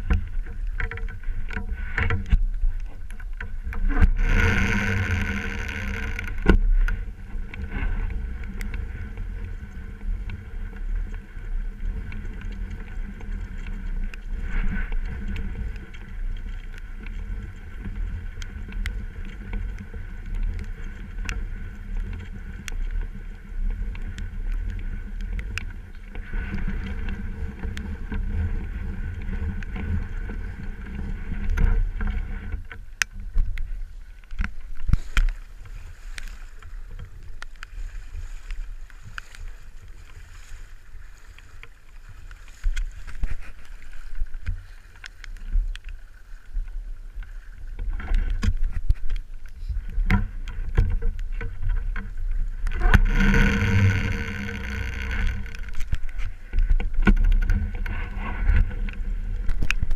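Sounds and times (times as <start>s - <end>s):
low gusty rumble: 0.0s - 44.9s, 47.7s - 59.9s
flowing water: 0.0s - 59.9s.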